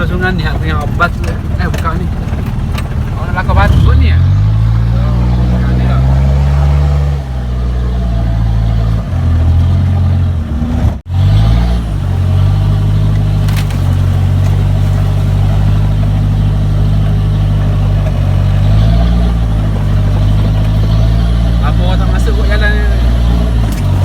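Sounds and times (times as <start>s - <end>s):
car engine revving under load: 0.0s - 24.0s.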